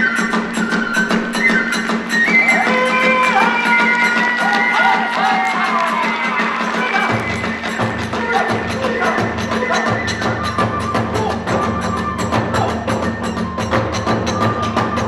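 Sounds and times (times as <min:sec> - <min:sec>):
bamboo flute long high notes: 0:00.0 - 0:15.0
drum beat: 0:00.0 - 0:15.0.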